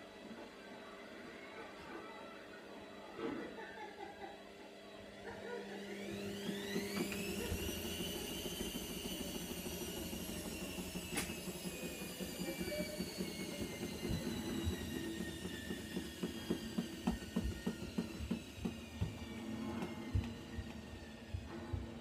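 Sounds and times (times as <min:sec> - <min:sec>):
washing machine spinning whine: 0:00.0 - 0:22.0.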